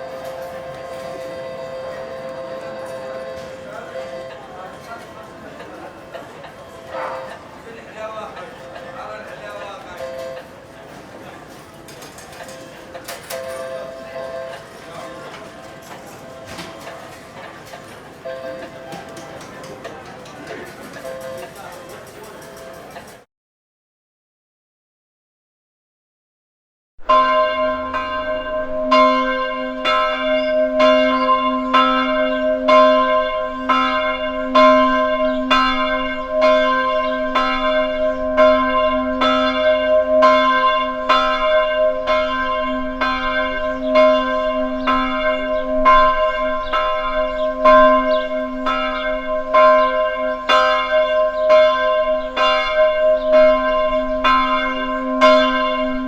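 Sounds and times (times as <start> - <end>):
large bell ringing: 0.0 - 23.2, 27.0 - 56.0.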